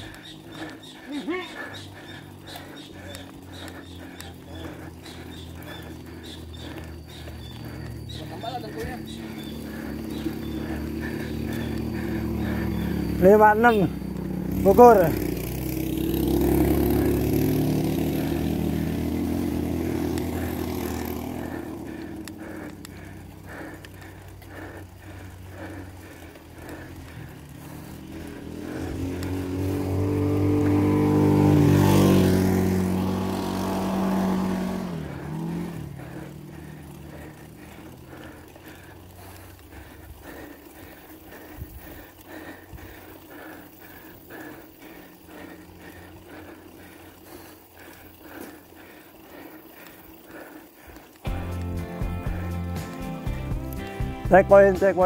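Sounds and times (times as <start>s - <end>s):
bicycle tyres rolling on pavement: 0.0s - 55.0s
vehicle engine passing: 0.0s - 55.0s.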